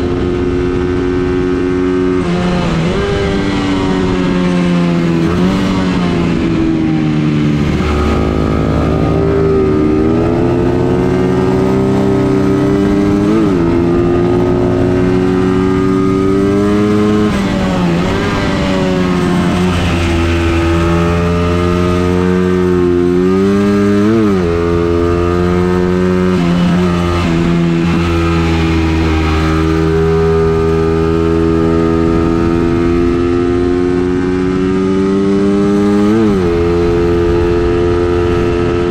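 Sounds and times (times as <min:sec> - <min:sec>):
vehicle engine running hard: 0:00.0 - 0:38.9.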